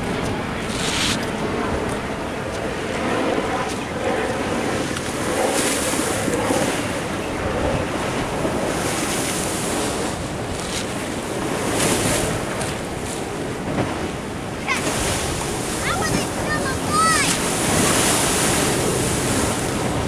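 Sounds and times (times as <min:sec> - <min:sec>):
ocean surf washing in: 0:00.0 - 0:20.0
wind buffeting the microphone: 0:00.0 - 0:20.0.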